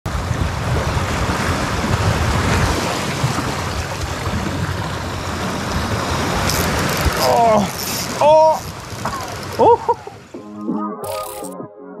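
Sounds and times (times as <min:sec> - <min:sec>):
sea waves washing against shore: 0:00.0 - 0:10.4
wind rumbling on microphone: 0:00.0 - 0:10.4.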